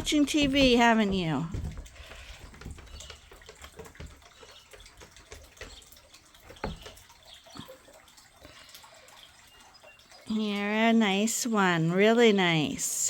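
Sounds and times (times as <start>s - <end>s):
water trickling from fountain: 0.0s - 13.0s.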